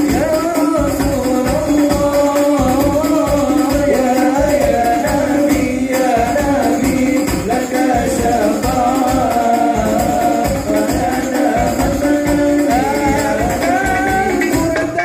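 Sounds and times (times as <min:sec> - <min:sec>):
frame drums beating: 0:00.0 - 0:15.0
group singing in unison: 0:00.0 - 0:15.0.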